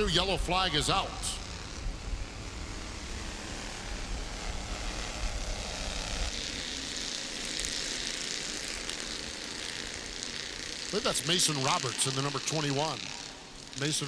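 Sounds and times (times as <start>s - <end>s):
distant race cars rushing: 0.0s - 14.0s.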